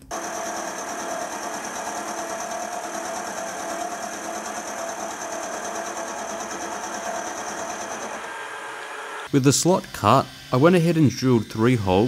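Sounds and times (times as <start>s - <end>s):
end mill cutting metal: 0.0s - 12.0s
milling machine whine: 0.0s - 12.0s.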